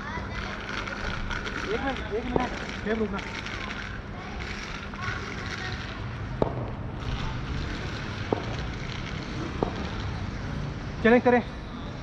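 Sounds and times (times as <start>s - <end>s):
indoor arena background noise: 0.0s - 12.0s.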